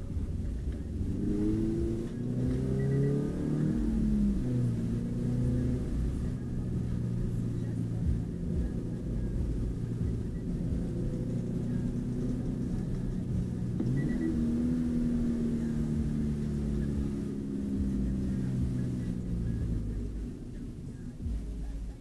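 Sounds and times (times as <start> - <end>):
car engine running: 0.0 - 22.0
road rumble: 0.0 - 22.0.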